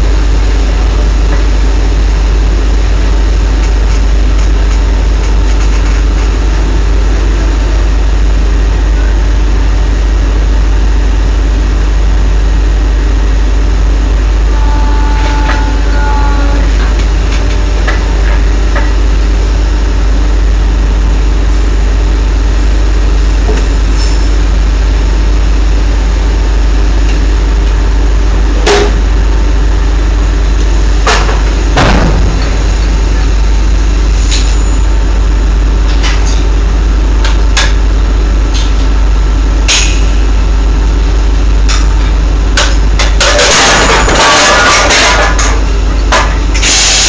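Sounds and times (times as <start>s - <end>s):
drilling machinery rumbling: 0.0s - 47.0s.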